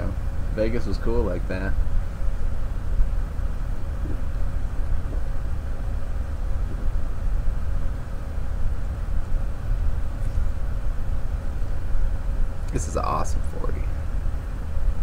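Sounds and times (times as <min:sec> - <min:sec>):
faint constant hum: 0:00.0 - 0:15.0
low rumbling background noise: 0:00.0 - 0:15.0.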